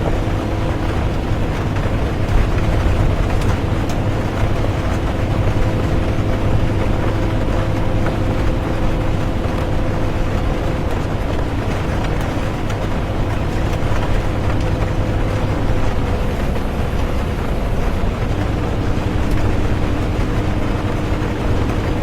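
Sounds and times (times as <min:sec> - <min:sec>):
bus engine and tyres rumbling: 0:00.0 - 0:22.0
rain on bus: 0:00.0 - 0:22.0.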